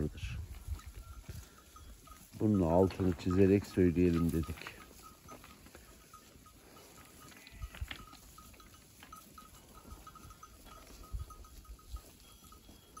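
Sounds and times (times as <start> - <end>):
sheep bells clinking: 0.0 - 13.0.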